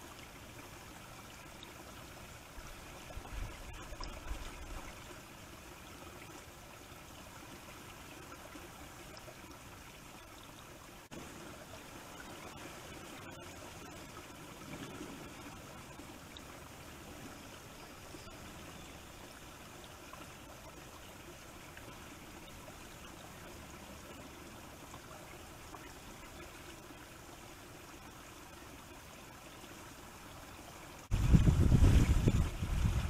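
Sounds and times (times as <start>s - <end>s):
faint outdoor ambience hiss: 0.0s - 33.0s.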